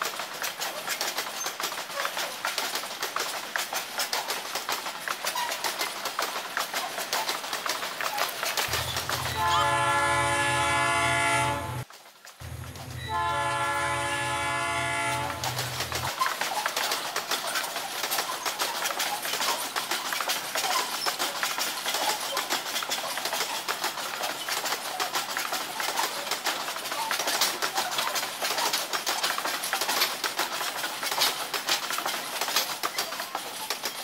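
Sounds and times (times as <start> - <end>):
train wheels clattering on rails: 0.0 - 34.0.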